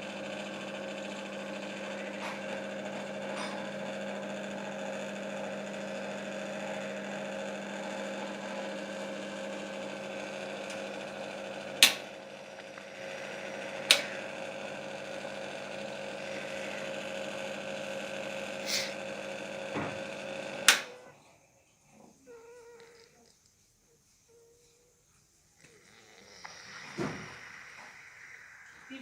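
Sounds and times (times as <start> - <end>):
fan heater motor hum: 0.0 - 29.0.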